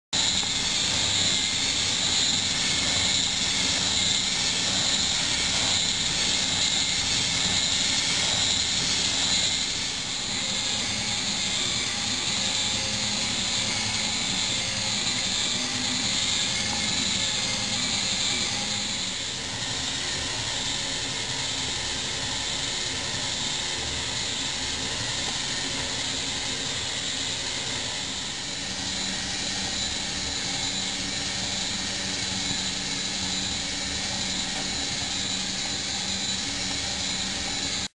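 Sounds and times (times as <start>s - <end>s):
small electric motor whirring: 0.1s - 37.9s.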